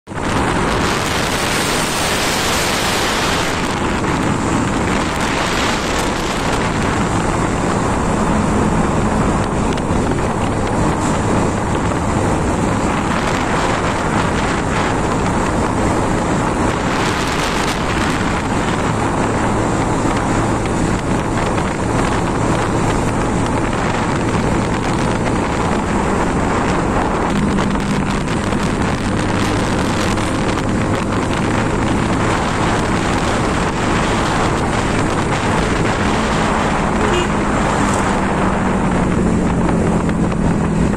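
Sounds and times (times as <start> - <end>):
motorcycle engine hum: 0.0 - 40.9
wind rushing over microphone: 0.0 - 40.9.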